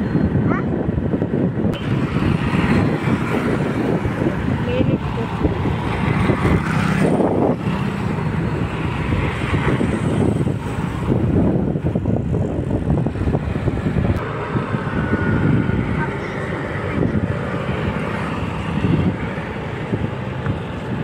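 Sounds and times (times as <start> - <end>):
road noise: 0.0 - 21.0
wind buffeting microphone: 0.0 - 21.0.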